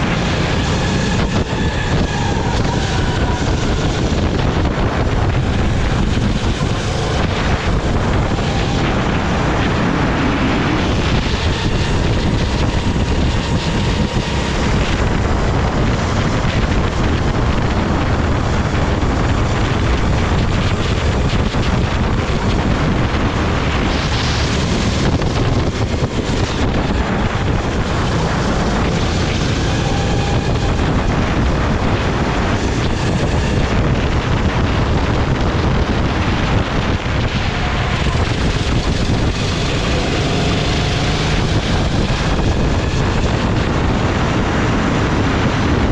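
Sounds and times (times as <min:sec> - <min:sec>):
kart engine running: 0:00.0 - 0:45.9
wind buffeting microphone: 0:00.0 - 0:45.9.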